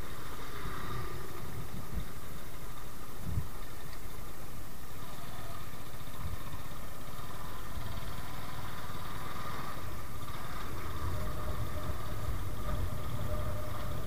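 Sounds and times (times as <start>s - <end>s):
motorbike engine running: 0.0s - 14.0s
road and wind noise: 0.0s - 14.0s.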